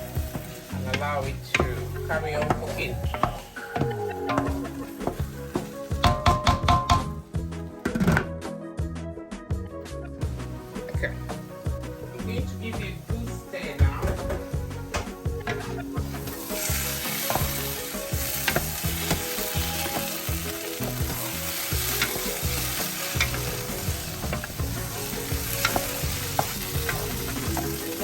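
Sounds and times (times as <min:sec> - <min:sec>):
seeds frying and sizzling: 0:00.0 - 0:07.8, 0:10.2 - 0:28.0.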